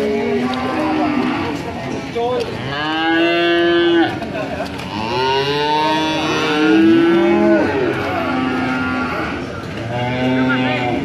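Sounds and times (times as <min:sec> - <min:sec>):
calves mooing: 0:00.0 - 0:01.6, 0:02.6 - 0:04.2, 0:04.9 - 0:11.0.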